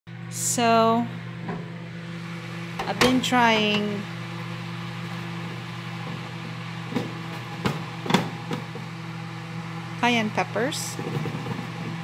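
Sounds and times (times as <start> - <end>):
food dehydrator humming: 0.1 - 12.0.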